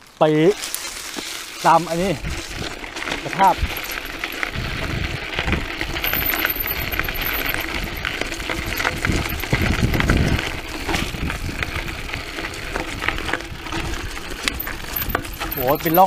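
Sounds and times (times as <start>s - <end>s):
bike metallic clinks and rattles: 0.0s - 16.0s
rumble of tyres and wind: 0.0s - 16.0s.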